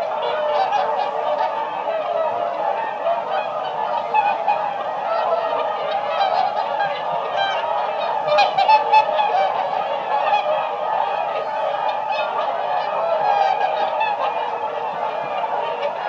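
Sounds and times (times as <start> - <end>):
swans calling: 0.0 - 16.0.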